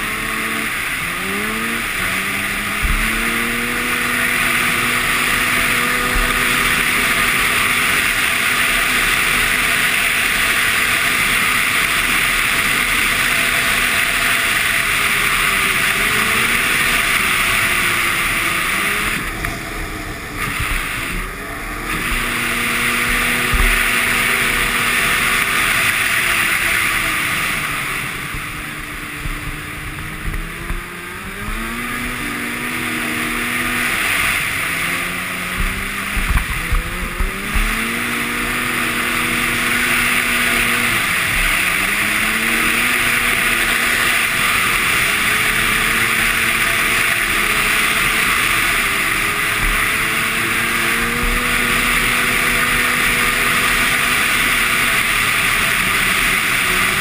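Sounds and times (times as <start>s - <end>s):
snowmobile engine cruising: 0.0s - 57.0s.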